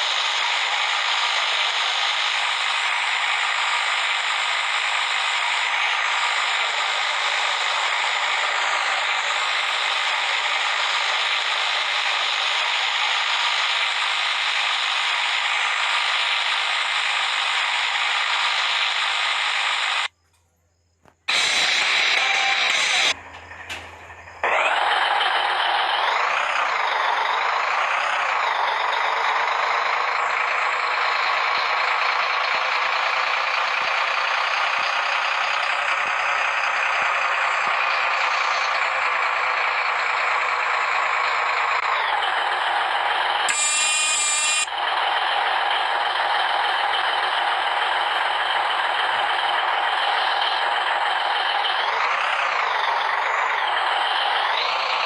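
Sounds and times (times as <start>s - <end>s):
heavy construction machinery running: 0.0s - 20.2s, 21.1s - 55.0s.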